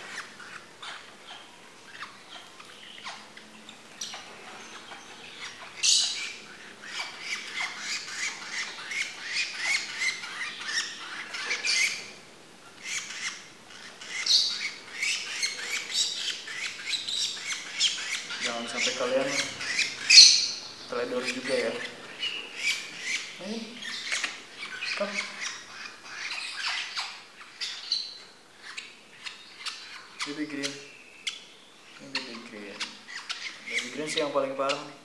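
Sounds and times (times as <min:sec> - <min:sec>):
lovebirds chirping and squawking: 0:00.0 - 0:35.0.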